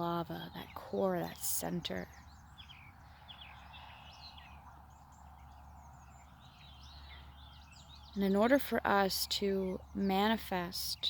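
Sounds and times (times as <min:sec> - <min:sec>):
birds chirping and trilling: 0:00.0 - 0:11.0.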